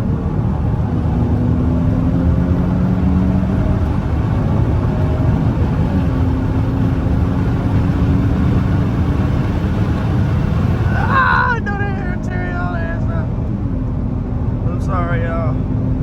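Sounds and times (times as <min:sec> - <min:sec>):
low engine drone: 0:00.0 - 0:16.0
wind and road noise in car cabin: 0:00.0 - 0:16.0.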